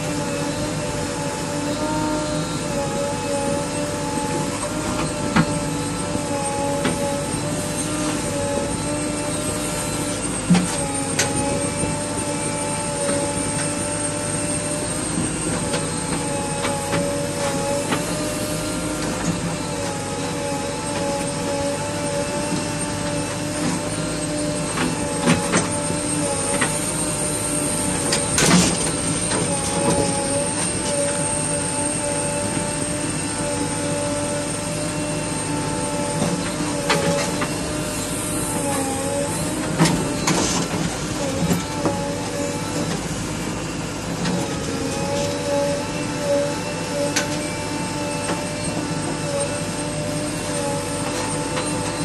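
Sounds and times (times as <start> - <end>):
diesel engine running under load: 0.0 - 52.0.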